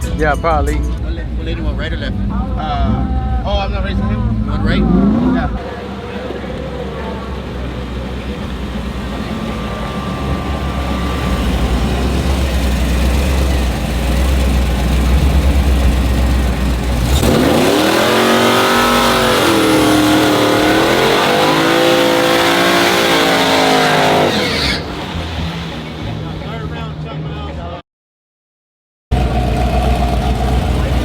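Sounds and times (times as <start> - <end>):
truck engines rumbling: 0.0 - 27.8, 29.1 - 31.0
truck launching hard: 1.8 - 27.0.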